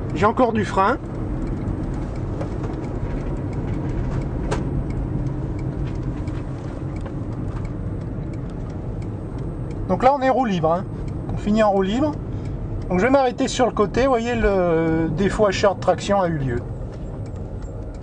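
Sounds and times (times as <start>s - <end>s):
car road and tyre noise: 0.0s - 18.0s.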